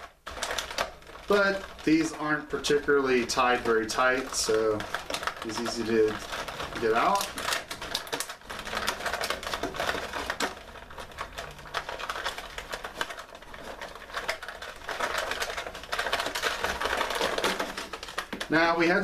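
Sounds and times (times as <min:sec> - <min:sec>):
plastic blister tray crackling: 0:00.0 - 0:19.0.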